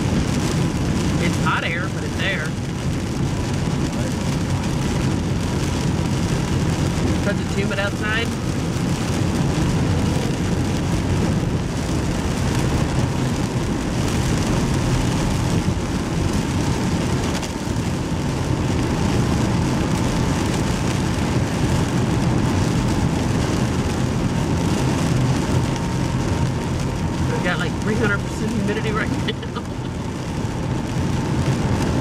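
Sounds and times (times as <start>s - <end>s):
rain on a car: 0.0s - 32.0s
road and engine noise: 0.0s - 32.0s.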